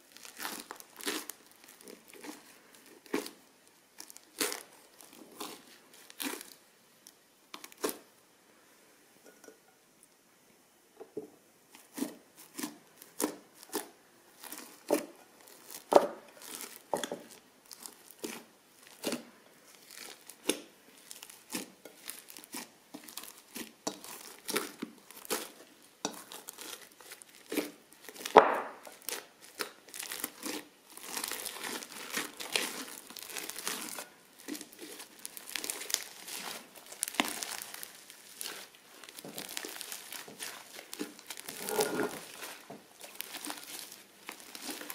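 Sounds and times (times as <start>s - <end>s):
crunchy slime crackling: 0.0s - 8.1s, 11.7s - 44.9s.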